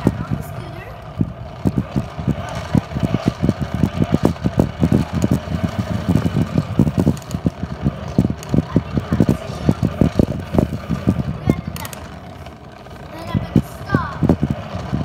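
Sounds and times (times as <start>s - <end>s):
plastic tricycle wheels rumbling: 0.0s - 15.0s.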